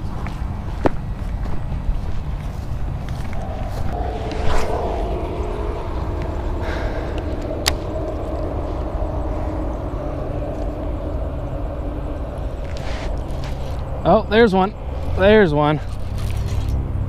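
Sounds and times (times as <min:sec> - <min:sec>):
low rumble like distant engine: 0:00.0 - 0:17.0.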